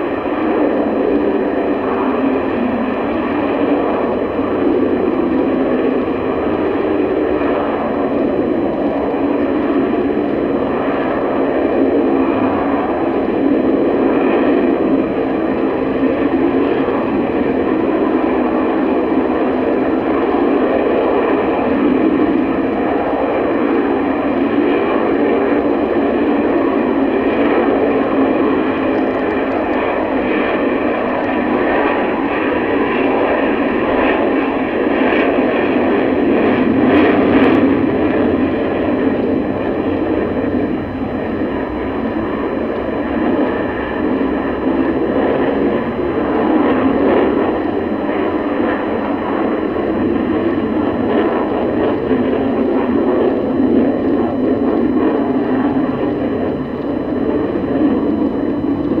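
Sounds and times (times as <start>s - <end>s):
jet engine noise with high whine: 0.0s - 59.0s.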